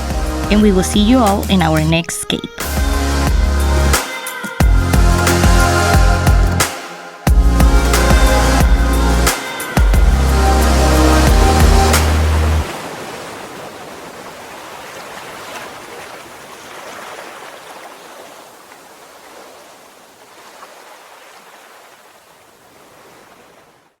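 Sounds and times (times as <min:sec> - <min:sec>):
rushing water: 0:03.0 - 0:24.0.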